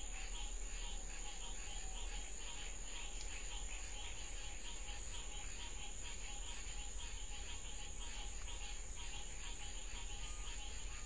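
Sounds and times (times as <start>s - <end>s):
crickets chirping: 0.0s - 11.0s
high hiss: 0.0s - 11.0s
low hum: 0.0s - 11.0s.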